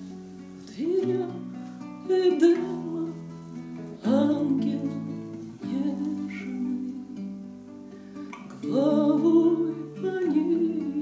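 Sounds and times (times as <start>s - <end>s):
plucked classical guitar: 0.0s - 11.0s
woman singing: 0.6s - 7.7s, 8.4s - 11.0s.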